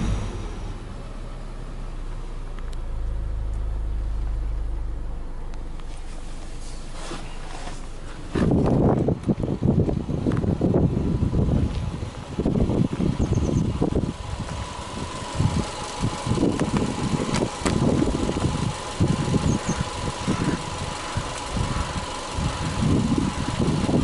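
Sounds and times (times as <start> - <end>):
car engine idling: 0.0 - 24.0
faint engine whine: 0.0 - 24.0.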